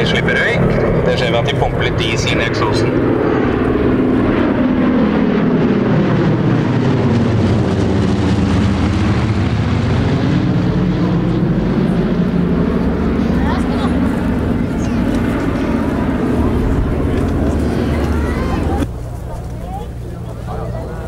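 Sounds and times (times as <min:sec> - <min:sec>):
radial aircraft engines droning: 0:00.0 - 0:21.0.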